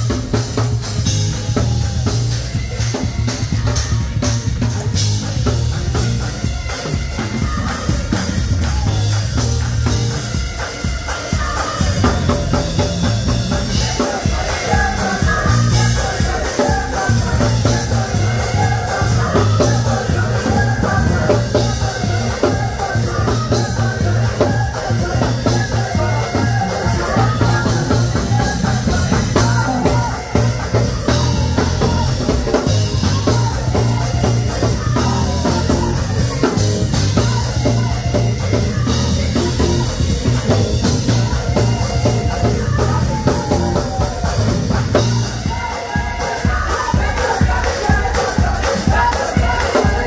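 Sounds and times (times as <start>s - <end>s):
busy drum kit: 0.0s - 50.0s
heavy bass: 0.0s - 50.0s
live gospel band: 0.0s - 50.0s.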